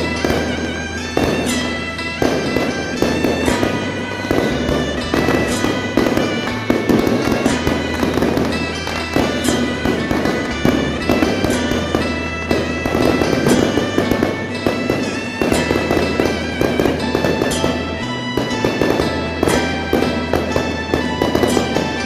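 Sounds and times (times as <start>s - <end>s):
firecracker crackling: 0.0s - 22.0s
music in sustained tones: 0.0s - 22.0s.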